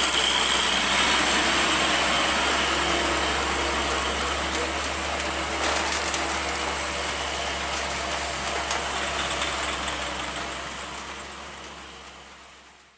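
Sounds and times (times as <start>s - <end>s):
heavy truck engine running: 0.0s - 12.9s.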